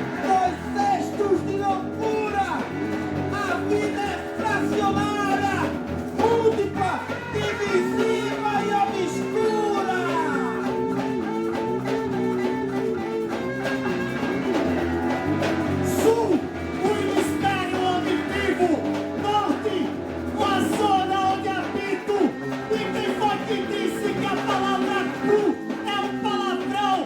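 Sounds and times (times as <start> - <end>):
guitar playing bending notes: 0.0 - 26.8
percussion: 0.0 - 27.0.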